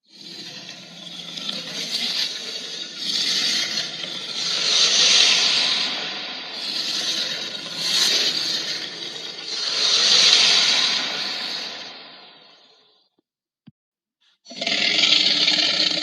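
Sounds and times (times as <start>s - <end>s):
hissing monster call: 0.0s - 12.6s, 14.5s - 16.0s.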